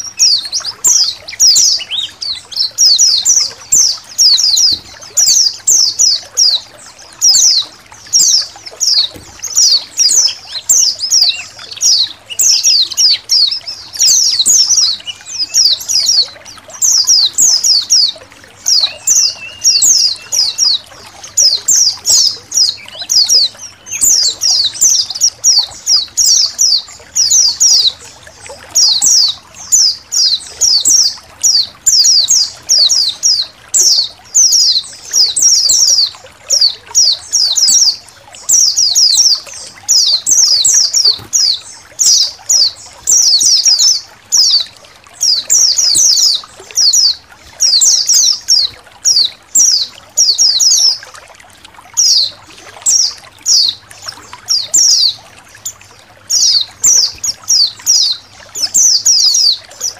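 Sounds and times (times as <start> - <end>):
flock of birds chirping: 0.0 - 59.9
water trickling: 0.0 - 59.9.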